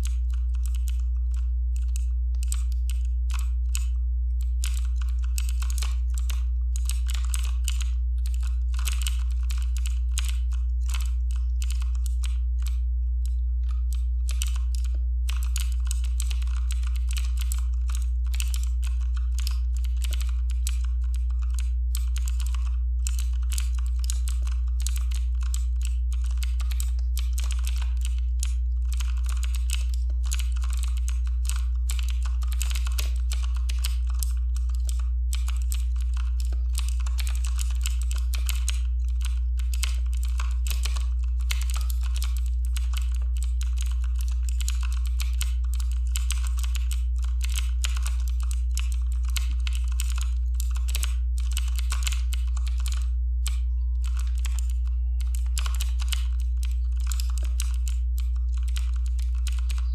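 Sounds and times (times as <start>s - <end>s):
fast typing on a keyboard: 0.0s - 59.9s
steady low hum: 0.0s - 59.9s.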